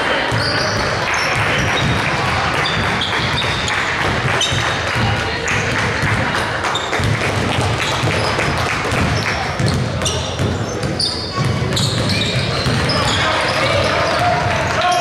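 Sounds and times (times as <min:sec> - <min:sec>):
echoing gym hubbub: 0:00.0 - 0:15.0
indistinct chatter: 0:00.0 - 0:15.0
sneaker squeaks: 0:00.2 - 0:02.0, 0:02.6 - 0:04.9, 0:06.6 - 0:15.0
basketball bouncing on wooden floor: 0:00.3 - 0:14.5.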